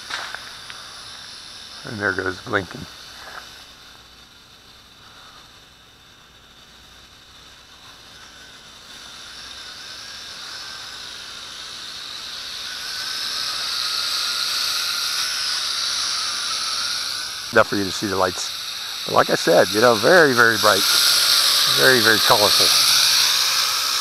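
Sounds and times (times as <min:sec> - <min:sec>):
drone propellers whining: 0:00.0 - 0:24.0
steady high hiss: 0:00.0 - 0:24.0.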